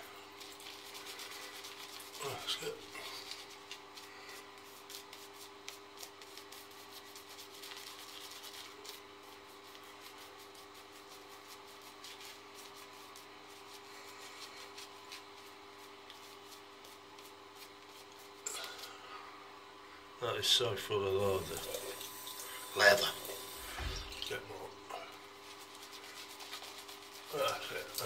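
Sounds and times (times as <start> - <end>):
shaving brush rubbing on face: 0.0 - 19.0, 21.1 - 28.0
faint steady hum: 0.0 - 28.0.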